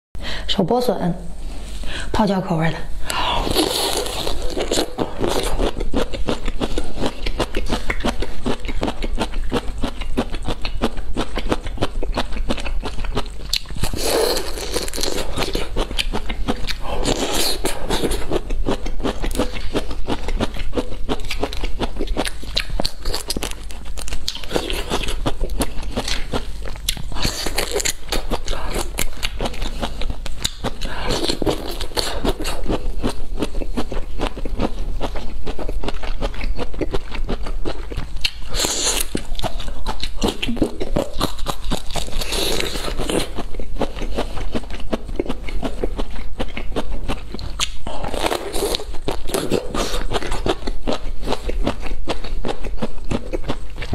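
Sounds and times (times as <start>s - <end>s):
crunching and chewing: 3.1s - 53.9s.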